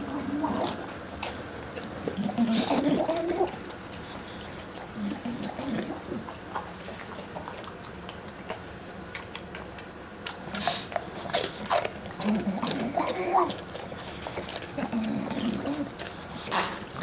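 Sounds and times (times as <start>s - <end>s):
dog chewing and crunching: 0.0s - 17.0s.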